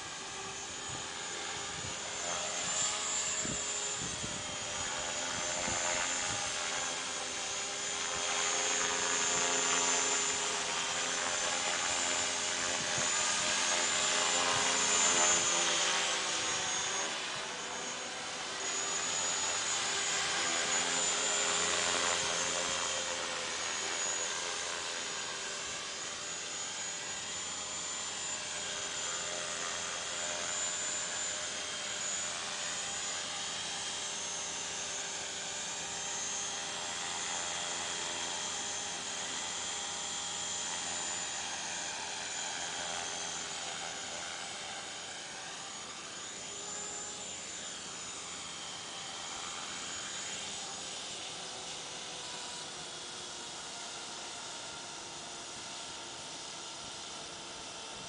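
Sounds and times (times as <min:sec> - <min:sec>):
helicopter rotor buzz: 0:00.0 - 0:58.0
rc helicopter motor whine: 0:00.0 - 0:58.0.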